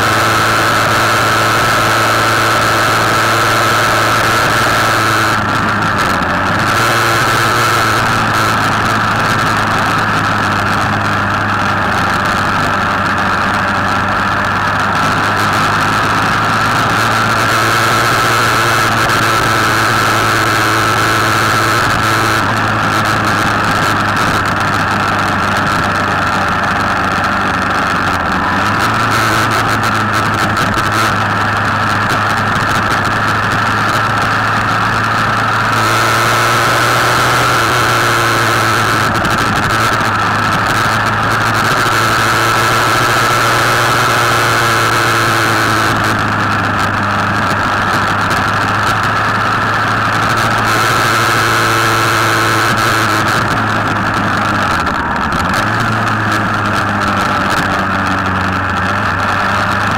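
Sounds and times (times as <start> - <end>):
scooter engine running: 0.0 - 59.9
wind and road noise: 0.0 - 59.9.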